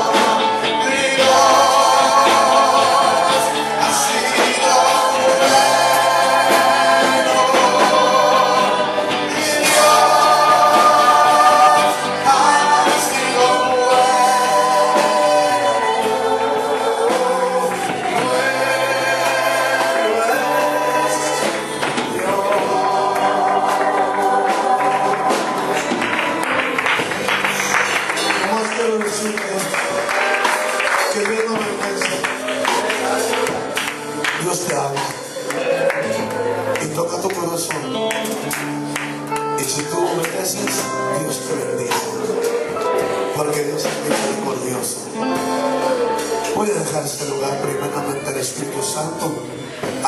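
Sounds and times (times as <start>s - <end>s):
band with moving bass line: 0.0s - 50.0s
voices singing together: 0.0s - 50.0s.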